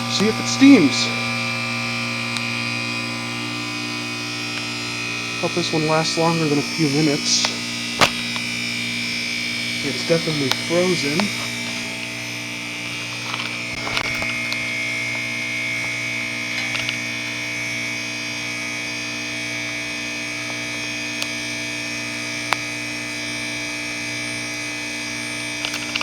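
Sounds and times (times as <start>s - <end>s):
heat pump humming with whine: 0.0s - 26.0s.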